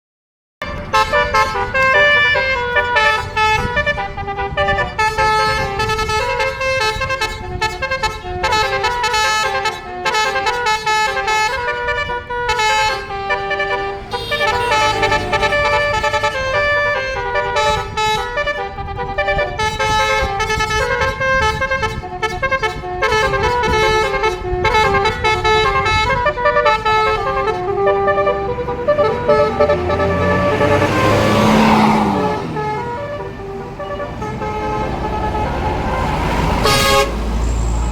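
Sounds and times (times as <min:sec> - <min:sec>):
musical bus horn playing a tune: 0:00.6 - 0:37.9.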